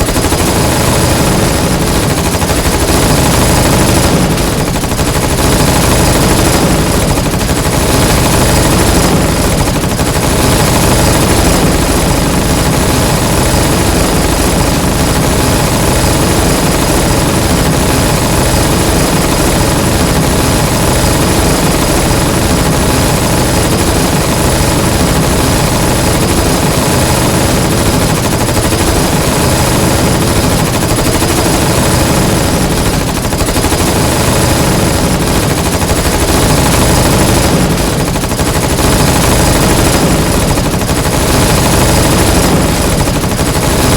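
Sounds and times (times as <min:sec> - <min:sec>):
submachine gun fire: 0:00.0 - 0:43.9.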